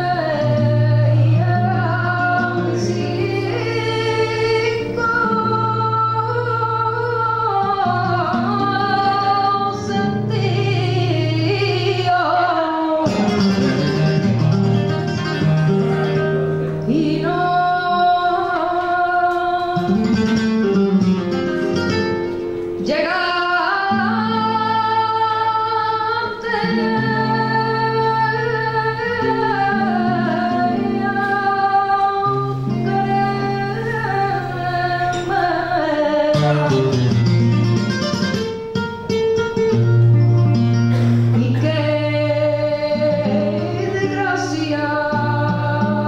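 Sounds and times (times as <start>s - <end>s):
flamenco guitar: 0.0s - 46.0s
woman singing flamenco: 0.0s - 46.0s.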